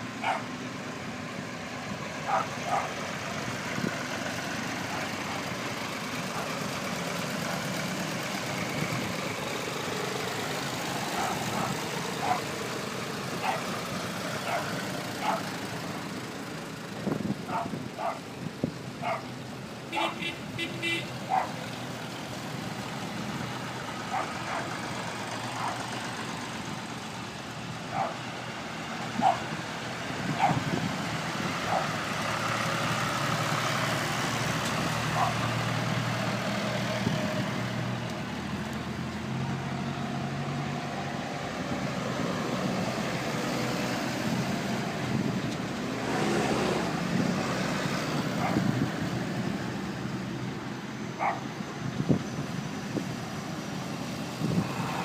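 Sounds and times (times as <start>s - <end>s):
tractor engines droning: 0.0s - 55.0s.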